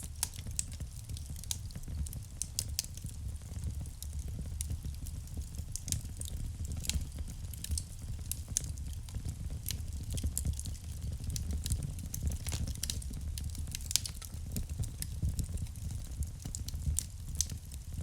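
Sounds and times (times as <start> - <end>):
low rumble of flames: 0.0 - 18.0
wood fire crackling and popping: 0.0 - 18.0.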